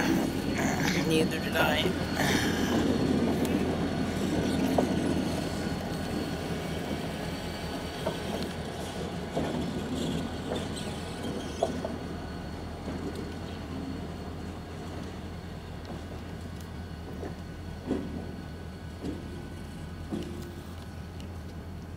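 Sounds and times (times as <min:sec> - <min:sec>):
diesel locomotive engine drone: 0:00.0 - 0:21.9.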